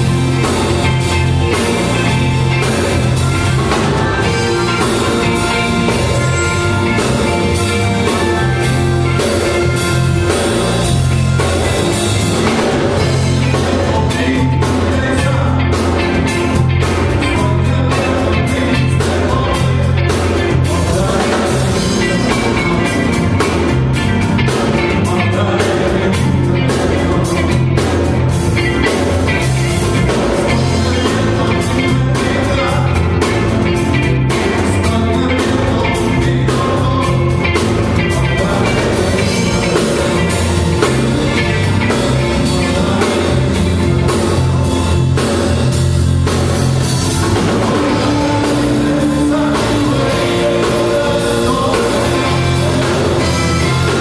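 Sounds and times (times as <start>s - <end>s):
bass guitar: 0.0s - 54.0s
distorted electric guitar: 0.0s - 54.0s
drums: 0.0s - 54.0s
keyboard: 0.0s - 54.0s.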